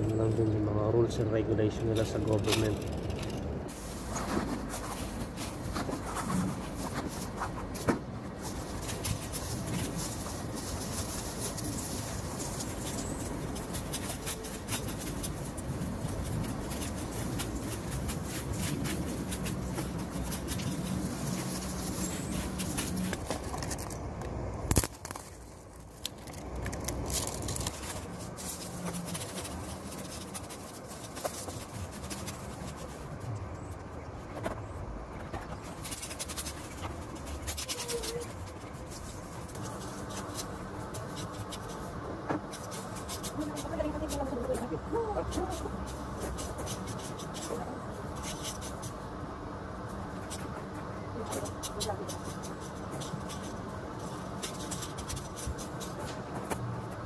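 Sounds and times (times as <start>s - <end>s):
dry bamboo rustling and crackling: 0.0s - 57.0s.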